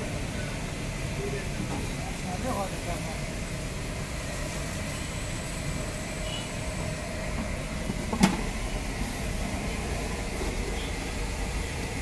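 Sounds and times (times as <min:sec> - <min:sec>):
street background rumble: 0:00.0 - 0:12.0.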